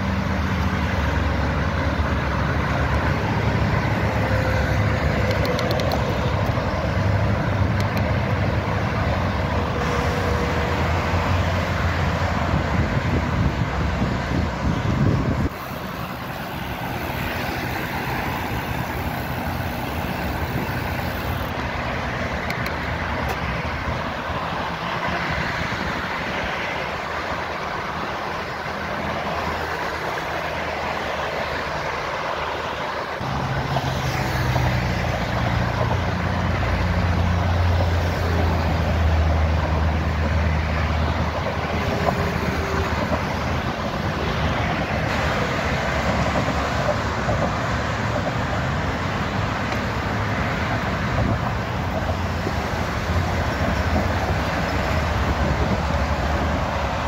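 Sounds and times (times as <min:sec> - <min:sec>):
heavy vehicle engine drone: 0:00.0 - 0:57.0
highway traffic noise: 0:00.0 - 0:57.0.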